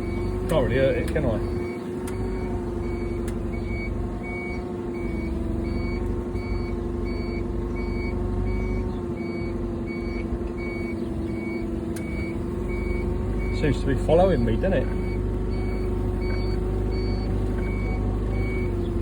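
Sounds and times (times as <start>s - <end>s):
high warning beeps: 0.0s - 18.8s
vehicle engine hum: 0.0s - 19.0s.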